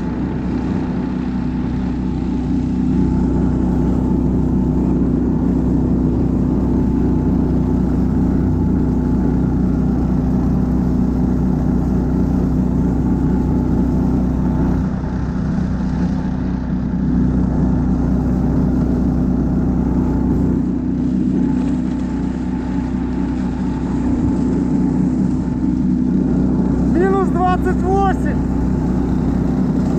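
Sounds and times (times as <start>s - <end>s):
snow tow engine droning: 0.0s - 29.9s.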